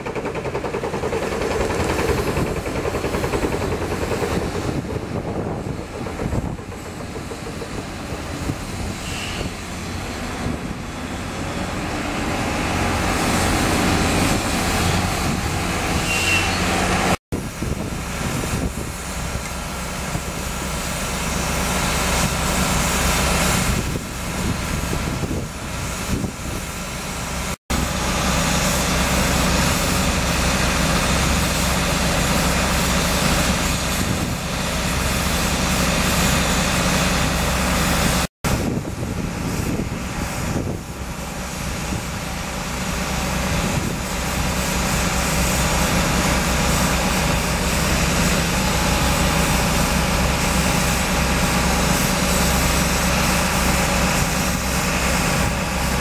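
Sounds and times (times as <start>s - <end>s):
drilling machinery running: 0.0s - 56.0s.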